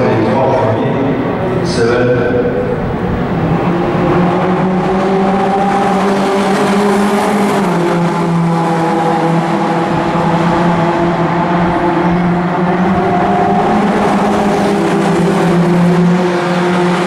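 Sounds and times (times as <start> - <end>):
racing car engines running hard: 0.0 - 17.0.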